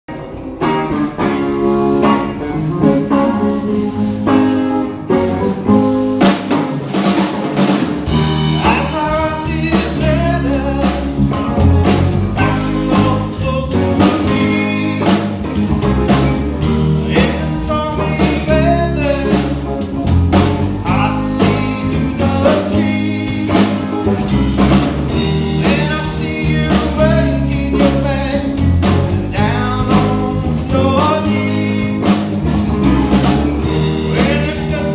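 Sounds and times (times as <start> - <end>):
bass guitar: 0.0 - 34.9
drum kit: 0.1 - 34.9
electric lead guitar: 0.1 - 34.9.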